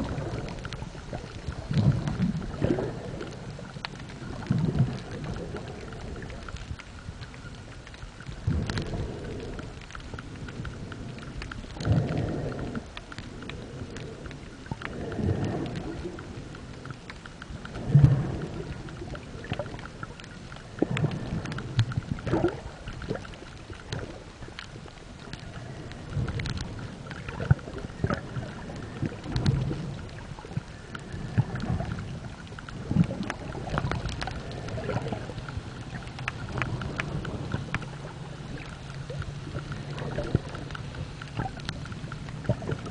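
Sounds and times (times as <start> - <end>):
constant underwater wash: 0.0 - 42.9
underwater waves rumbling: 0.0 - 42.9.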